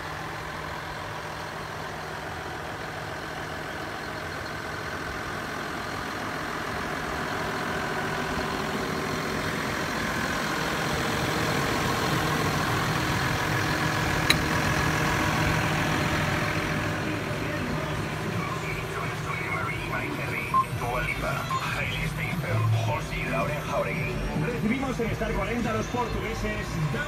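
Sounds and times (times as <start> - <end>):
tractor diesel engine idling: 0.0 - 27.0.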